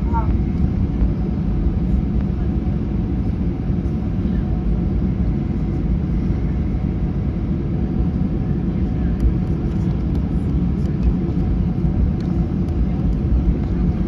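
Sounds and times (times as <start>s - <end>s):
airliner cabin low rumble: 0.0s - 14.0s.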